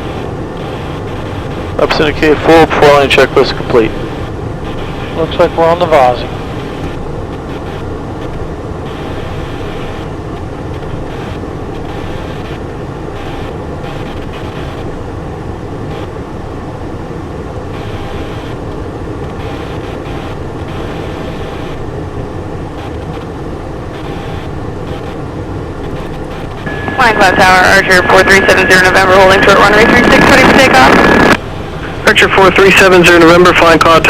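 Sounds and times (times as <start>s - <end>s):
jet engine noise: 0.0s - 34.0s.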